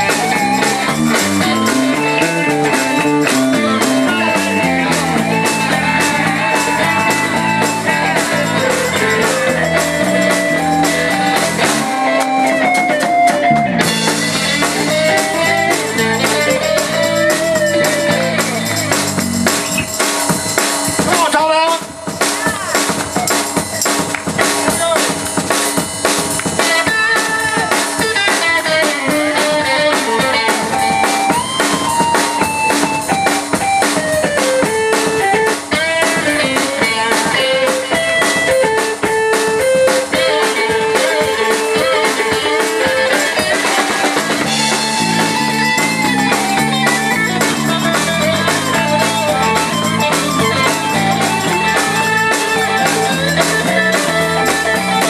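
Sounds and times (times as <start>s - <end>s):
bass guitar line: 0.0s - 55.0s
blues-rock band playing: 0.0s - 55.0s.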